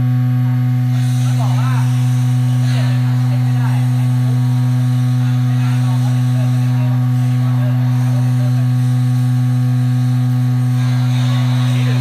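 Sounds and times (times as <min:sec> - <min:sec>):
machine low hum with higher tone: 0:00.0 - 0:12.0.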